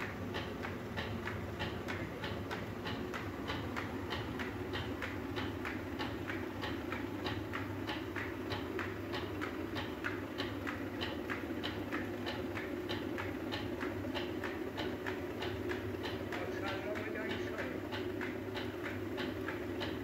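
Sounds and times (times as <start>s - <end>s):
rapid even clacking: 0.0s - 20.0s.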